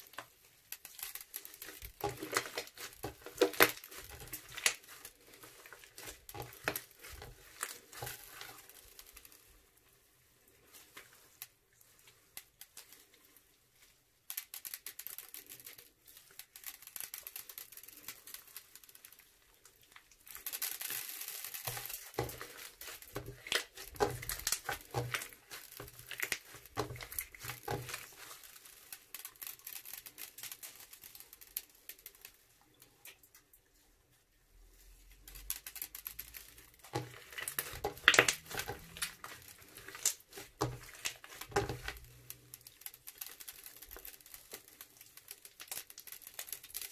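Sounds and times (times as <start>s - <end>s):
crunchy slime squished by hand: 0.0s - 9.6s, 14.5s - 31.9s, 35.2s - 46.9s.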